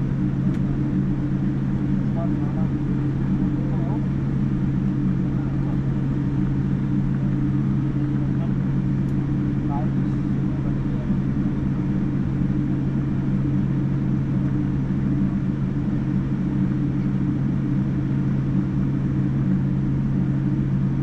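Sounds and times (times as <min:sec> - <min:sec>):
airplane cabin engine drone: 0:00.0 - 0:21.0.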